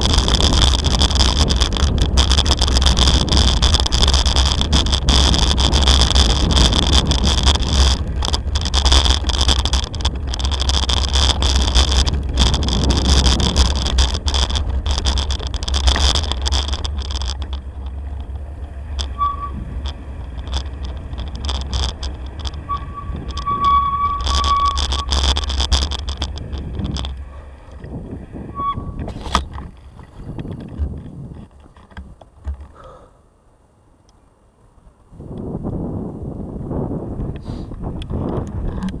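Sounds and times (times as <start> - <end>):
wind rumble on microphone: 0.0 - 32.8, 34.7 - 39.0
bike rattling clicks: 0.0 - 33.0, 37.2 - 39.0
bicycle over cobblestones: 0.0 - 33.1, 33.8 - 39.0.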